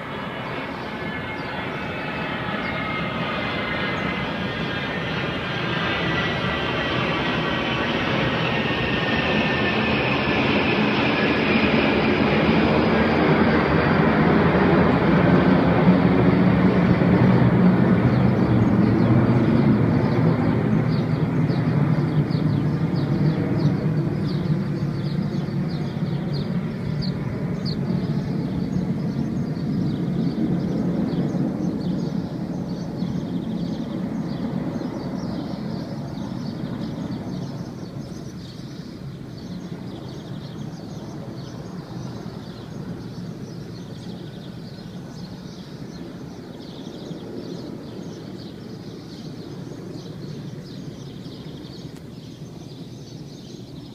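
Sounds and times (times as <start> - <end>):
jet aircraft flying overhead: 0.0 - 53.9.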